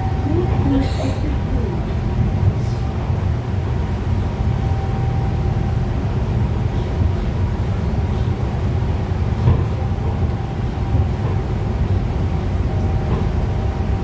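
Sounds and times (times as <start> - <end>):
monorail train rumbling: 0.0 - 14.0.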